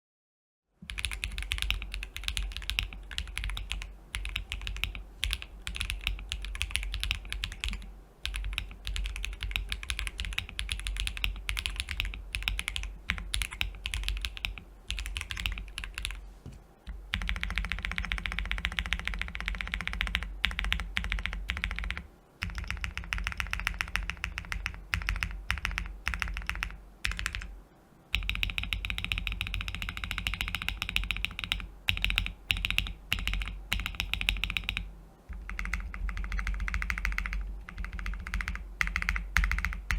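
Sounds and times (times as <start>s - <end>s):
fast typing on mechanical keyboard: 0.9s - 16.2s, 17.1s - 27.5s, 28.1s - 39.9s.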